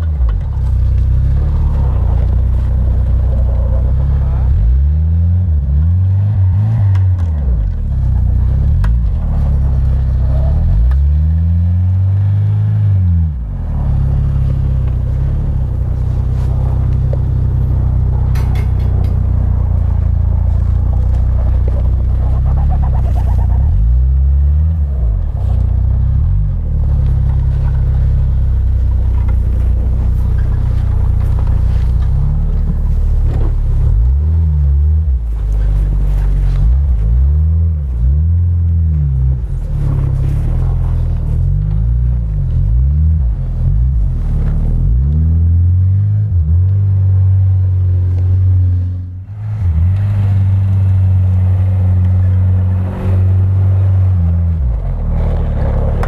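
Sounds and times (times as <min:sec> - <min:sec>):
car engine revving under load: 0:00.0 - 0:56.0.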